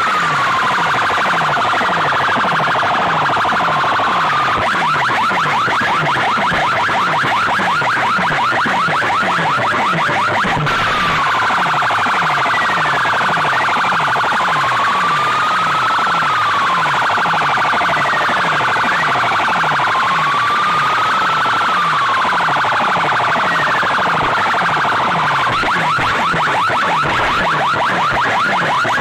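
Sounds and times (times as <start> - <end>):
siren-like electronic tone: 0.0 - 29.0.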